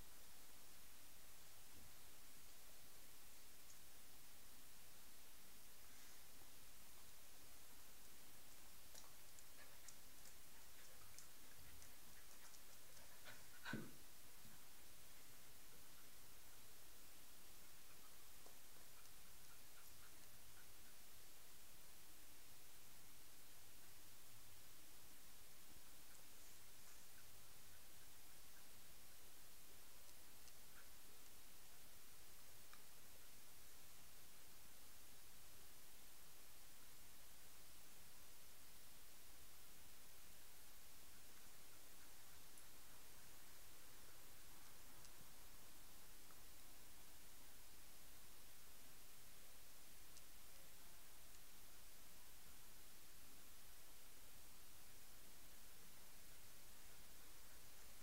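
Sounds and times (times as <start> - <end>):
faint steady hiss: 0.0 - 58.0
faint ticks: 0.0 - 58.0.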